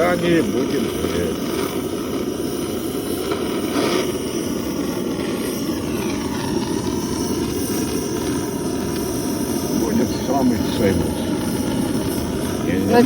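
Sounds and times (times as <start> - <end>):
blowtorch flame roaring: 0.0 - 13.0.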